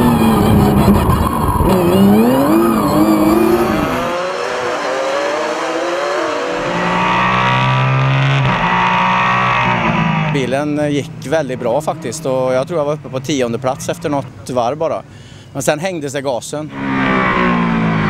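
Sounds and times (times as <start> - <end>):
race car engine revving: 0.0 - 14.4, 16.7 - 18.0.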